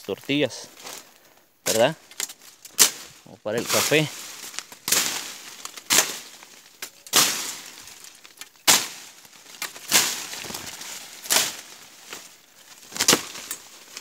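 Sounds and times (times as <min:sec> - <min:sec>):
leaves and twigs rustling: 0:00.0 - 0:14.0
blade chopping through vines: 0:01.6 - 0:14.0.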